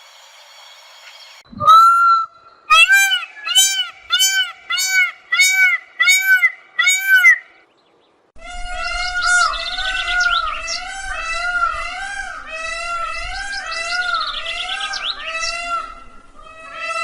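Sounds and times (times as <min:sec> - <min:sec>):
warbling bird call with trills: 0:01.0 - 0:07.6, 0:08.4 - 0:17.0
peafowl calling: 0:01.6 - 0:07.6, 0:08.4 - 0:17.0.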